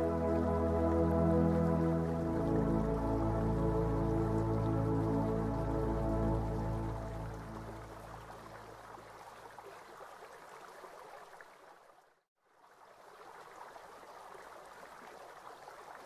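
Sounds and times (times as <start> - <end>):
trickling stream: 0.0 - 16.0.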